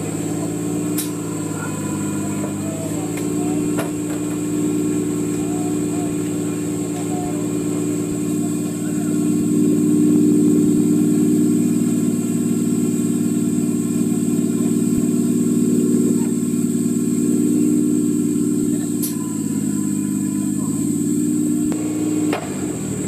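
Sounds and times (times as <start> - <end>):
off-road vehicle engine idling: 0.0 - 23.0.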